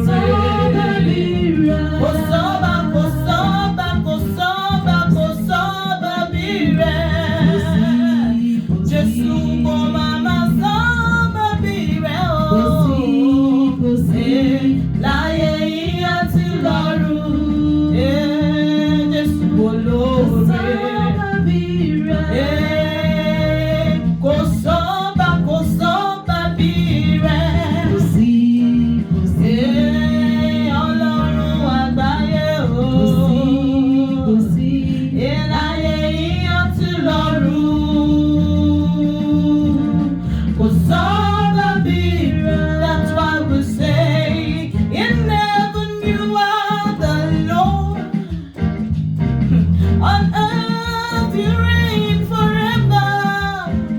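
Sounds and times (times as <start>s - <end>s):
person singing: 0.0s - 48.5s
guitar: 0.0s - 53.9s.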